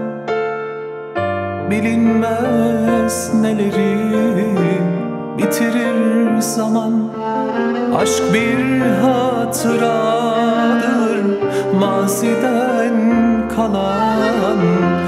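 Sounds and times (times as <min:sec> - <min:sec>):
man singing: 0:01.6 - 0:15.0
bowed violin: 0:01.7 - 0:15.0.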